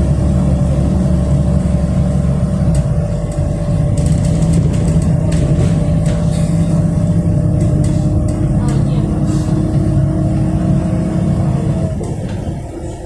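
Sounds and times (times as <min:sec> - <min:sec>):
bus engine running: 0:00.0 - 0:13.0
interior rattles and clicks: 0:00.0 - 0:13.0.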